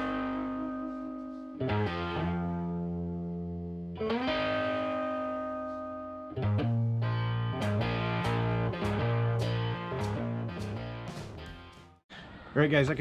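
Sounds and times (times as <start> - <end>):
distorted electric guitar chords: 0.0 - 12.0.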